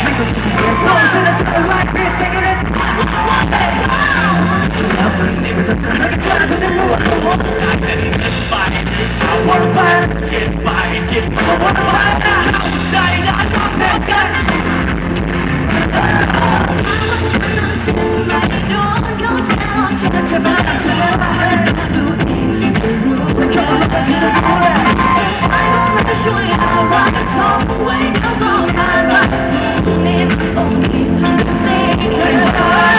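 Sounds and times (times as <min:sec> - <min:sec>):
man singing into a microphone: 0:00.0 - 0:14.9, 0:15.8 - 0:32.9
live pop band: 0:00.0 - 0:32.9.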